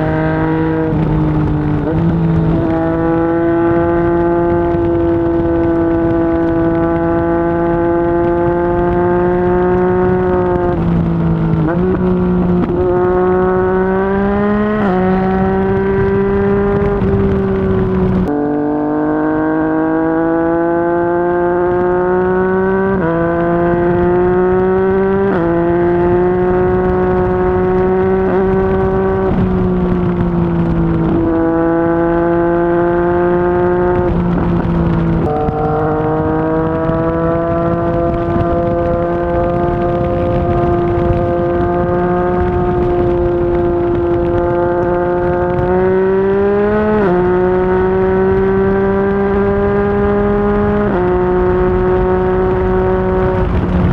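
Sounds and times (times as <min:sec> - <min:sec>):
motorcycle engine running: 0:00.0 - 0:53.9
wind and road noise: 0:00.0 - 0:53.9.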